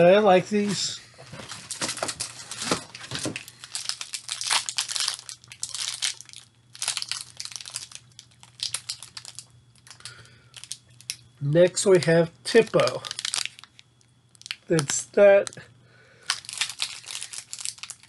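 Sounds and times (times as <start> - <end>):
plastic wrappers crinkling: 1.4 - 11.2, 12.0 - 15.6, 16.2 - 18.0.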